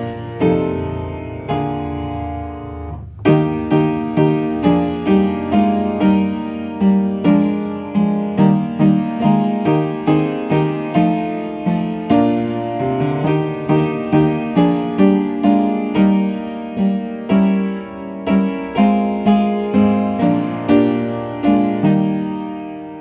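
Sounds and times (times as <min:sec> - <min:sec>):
piano playing hymn chords: 0:00.0 - 0:23.0.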